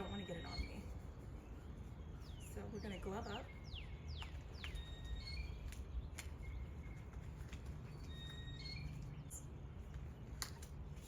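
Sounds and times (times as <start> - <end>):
birds chirping: 0.0 - 11.0
low steady background rumble: 0.0 - 11.0.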